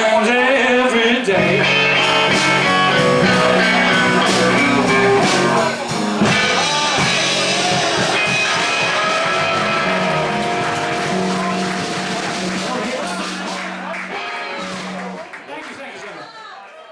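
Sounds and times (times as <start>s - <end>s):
lead guitar bending notes: 1.4s - 15.2s
band playing slow blues: 1.4s - 15.3s.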